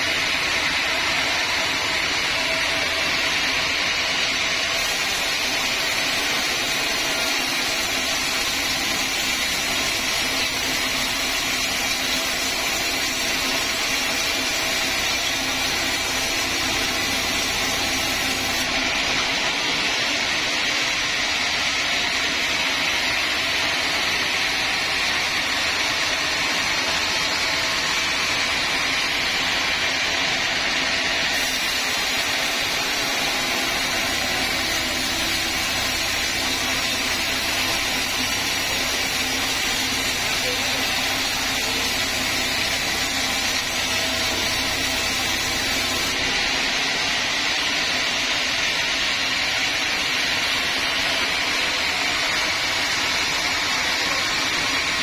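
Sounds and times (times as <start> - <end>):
saw blade cutting through log: 0.0 - 20.2, 22.0 - 48.1
machine hum: 0.0 - 49.2.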